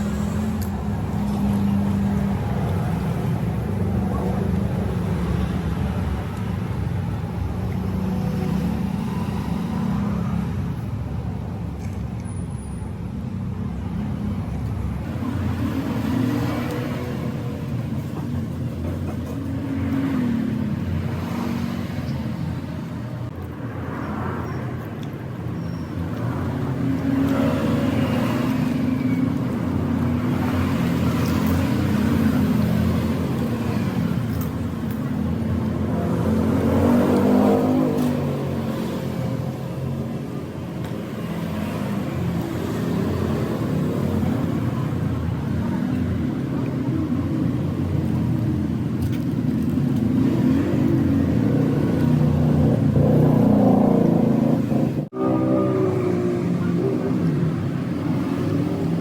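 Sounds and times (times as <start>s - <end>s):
steady background noise: 0.0s - 59.0s
vehicles passing: 0.0s - 59.0s.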